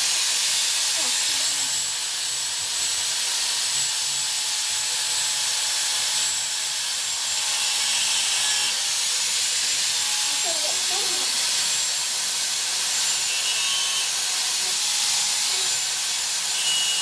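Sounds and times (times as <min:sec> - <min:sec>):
power tool grinding steel: 0:00.0 - 0:17.0.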